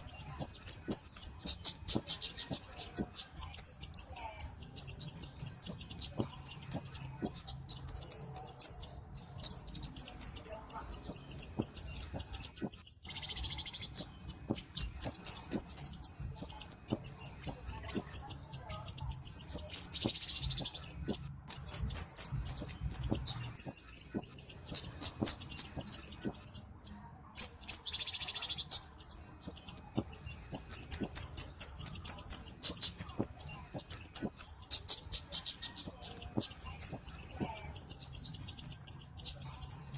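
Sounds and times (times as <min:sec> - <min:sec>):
bird chittering trills: 0:00.0 - 0:39.9.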